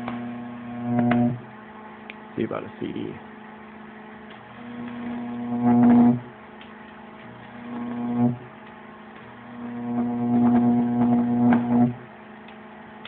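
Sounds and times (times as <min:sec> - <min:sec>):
electric arc buzzing and crackling: 0:00.0 - 0:13.0
faint steady hum: 0:00.0 - 0:13.0.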